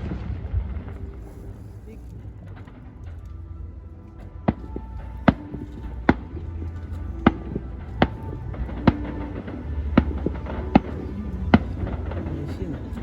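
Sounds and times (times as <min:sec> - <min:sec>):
fireworks bangs: 0:00.0 - 0:13.0
steady low rumble: 0:00.0 - 0:13.0.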